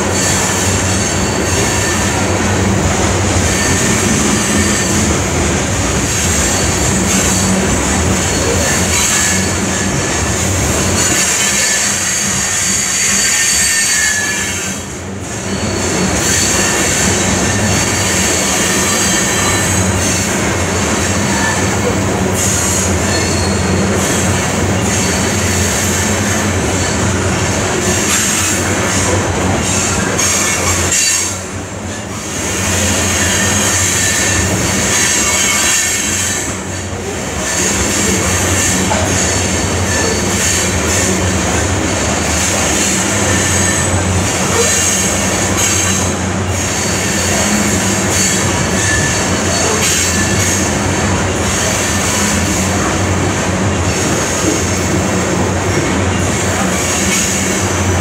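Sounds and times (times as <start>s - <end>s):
high wheel squeal: 0.0s - 53.1s
train wheels rumbling on rails: 0.0s - 58.0s.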